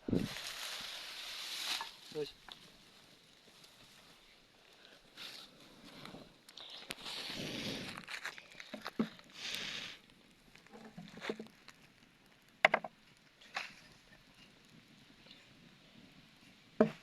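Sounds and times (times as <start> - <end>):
sticks and leaves rustling: 0.0 - 15.6.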